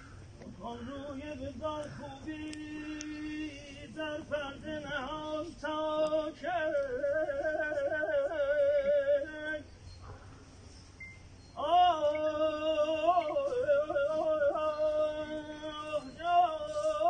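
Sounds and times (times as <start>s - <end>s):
man singing unaccompanied: 0.4s - 9.8s, 11.6s - 17.0s.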